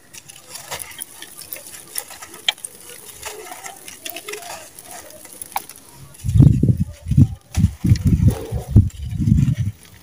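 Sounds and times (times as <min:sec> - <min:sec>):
dry grit spilling: 0:00.0 - 0:10.0
dry lumps crunching by hand: 0:00.0 - 0:10.0.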